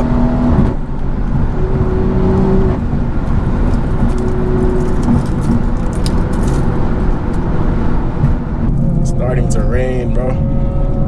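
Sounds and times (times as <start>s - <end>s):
car engine drone: 0.0s - 11.0s
road noise: 0.0s - 11.0s
wind buffeting: 0.0s - 11.0s.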